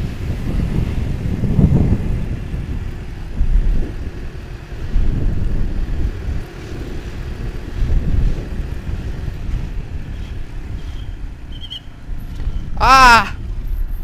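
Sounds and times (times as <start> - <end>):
motorcycle engine: 0.0 - 14.0
road rumble: 0.0 - 14.0
wind buffeting microphone: 0.0 - 14.0.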